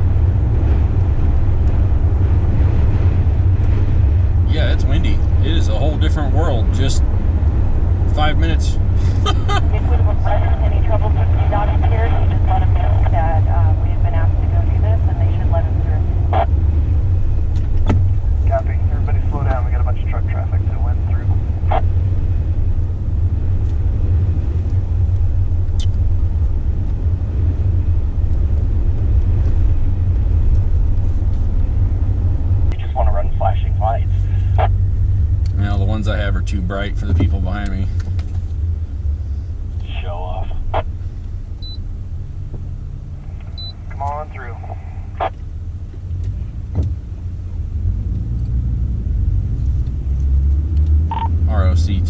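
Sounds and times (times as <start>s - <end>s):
car engine rumble inside cab: 0.0s - 52.0s
road noise: 0.0s - 52.0s.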